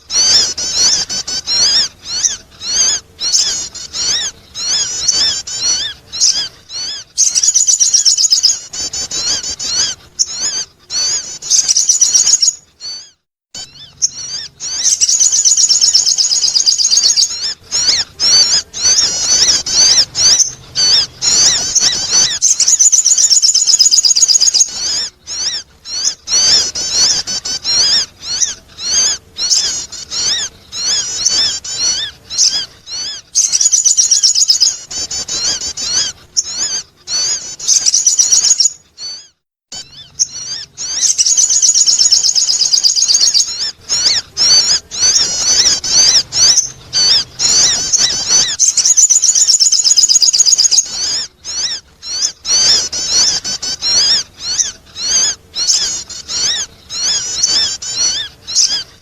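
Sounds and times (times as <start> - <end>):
rapid high-pitched bird chirps: 0.0 - 59.0.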